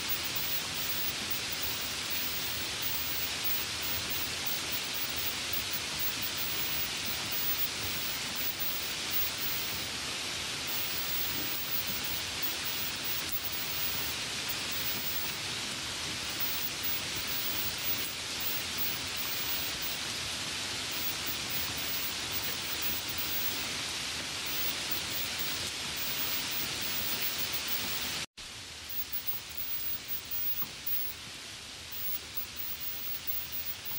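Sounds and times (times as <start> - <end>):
light rain hissing: 0.0 - 33.9.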